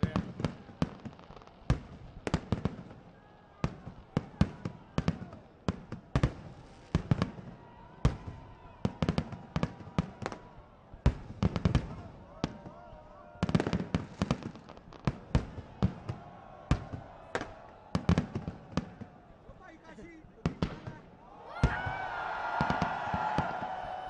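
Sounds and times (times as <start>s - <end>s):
fireworks bangs and pops: 0.0s - 24.0s.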